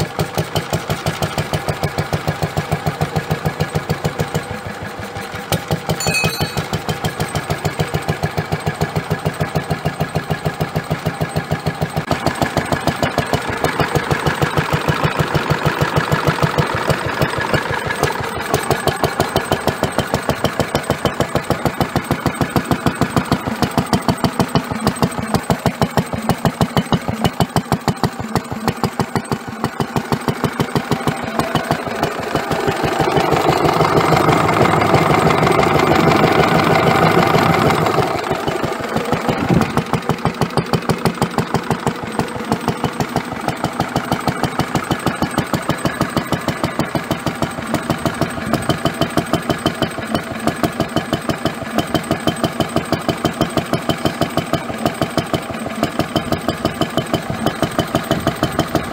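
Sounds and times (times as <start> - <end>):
stationary engine running: 5.8 - 58.9.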